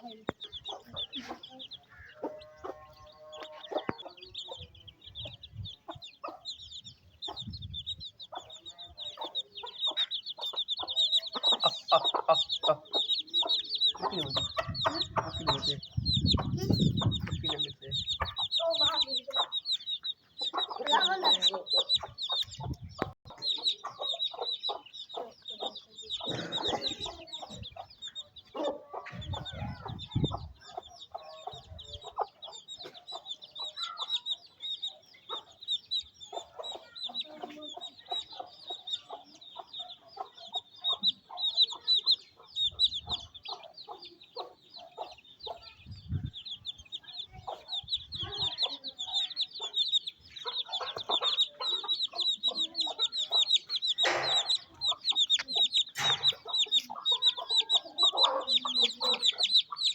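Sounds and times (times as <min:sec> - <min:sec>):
chicks peeping: 0:00.0 - 0:59.9
hen clucking: 0:00.0 - 0:59.9.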